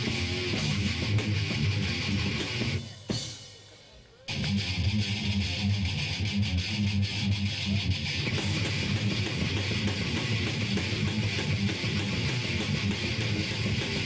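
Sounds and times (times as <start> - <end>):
metal band playing: 0.0 - 14.0.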